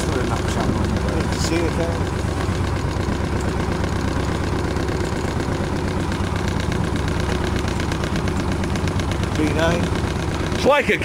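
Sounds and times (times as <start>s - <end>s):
diesel engine running at low revs: 0.0s - 11.0s.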